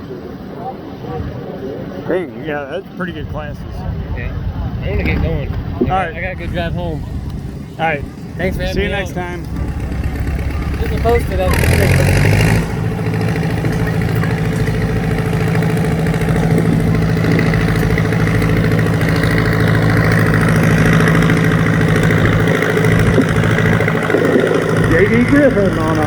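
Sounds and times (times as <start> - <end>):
tractor engine running: 3.3 - 26.0.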